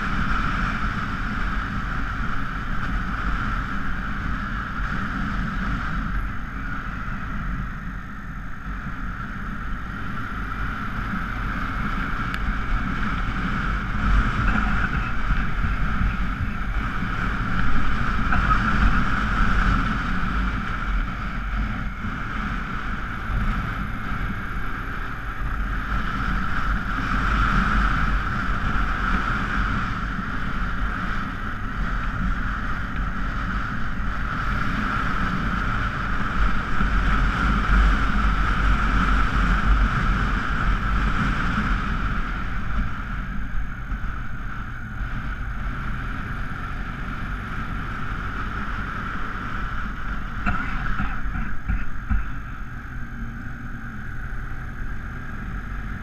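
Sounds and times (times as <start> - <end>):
motorcycle engine running: 0.0 - 56.0
wind over microphone: 0.0 - 56.0.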